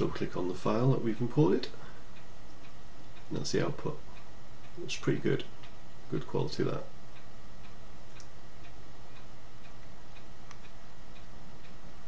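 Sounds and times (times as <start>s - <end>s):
clock ticking: 0.0s - 11.9s
low hum and hiss: 0.0s - 12.0s.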